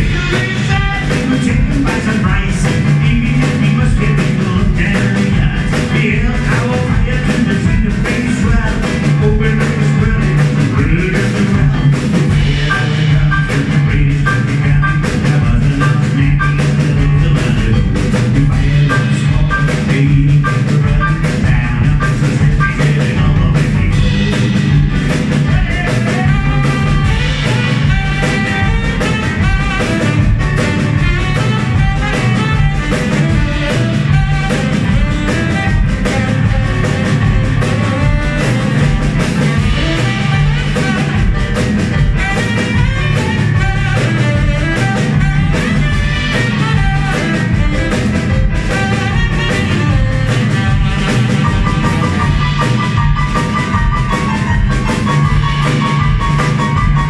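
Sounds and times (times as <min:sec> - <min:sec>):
drum kit: 0:00.0 - 0:57.0
piano: 0:00.0 - 0:57.0
saxophone: 0:00.0 - 0:57.0.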